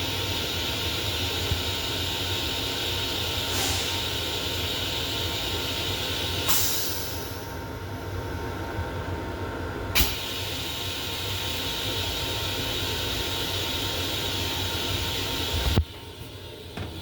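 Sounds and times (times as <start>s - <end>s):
train car rumble with hiss: 0.0s - 17.0s.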